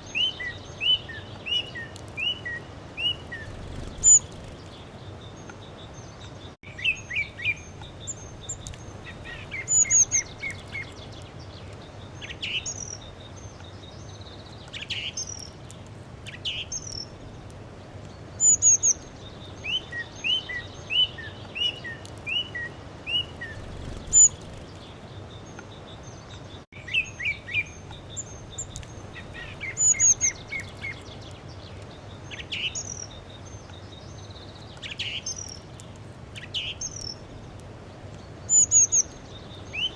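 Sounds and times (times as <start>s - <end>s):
birds singing and chirping: 0.0s - 17.5s, 18.1s - 39.9s.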